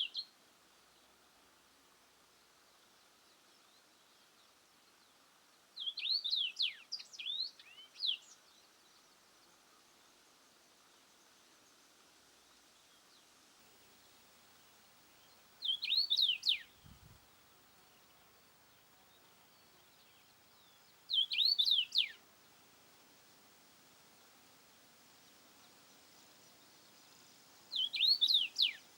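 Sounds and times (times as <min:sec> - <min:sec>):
songbird singing: 0:00.0 - 0:01.3, 0:01.9 - 0:28.9
faint outdoor hiss: 0:00.0 - 0:28.9.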